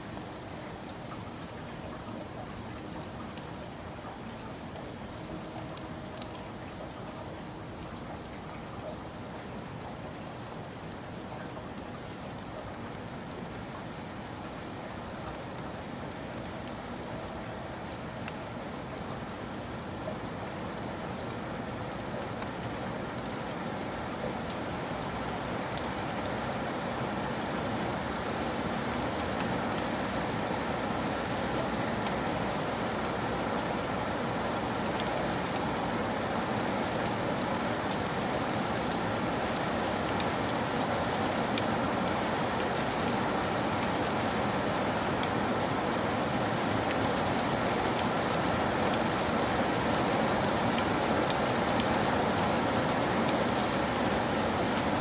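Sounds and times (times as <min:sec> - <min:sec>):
raindrops striking a surface: 0:00.0 - 0:55.0
steady rain: 0:00.0 - 0:55.0.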